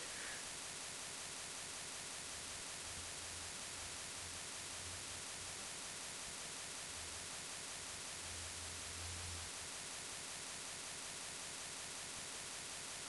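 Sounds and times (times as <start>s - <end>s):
faint low hum: 0.0s - 13.0s
steady recording hiss: 0.0s - 13.0s.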